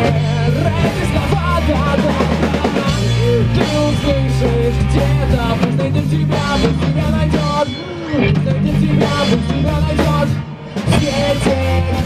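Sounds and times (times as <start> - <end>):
bass: 0.0 - 12.0
drum kit beat: 0.0 - 12.0
electric guitar: 0.0 - 12.0.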